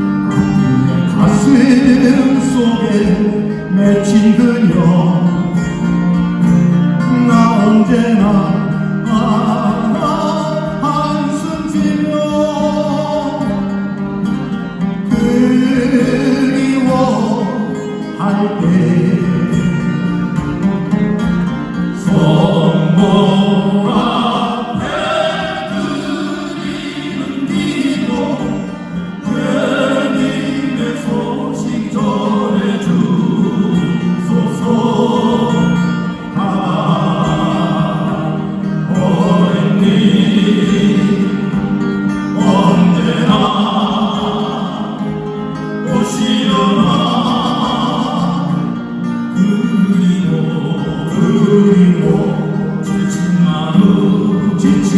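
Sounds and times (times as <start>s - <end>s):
group of voices singing: 0.0s - 6.1s, 7.0s - 13.8s, 15.0s - 20.7s, 21.6s - 54.9s
acoustic guitars playing: 0.0s - 54.9s.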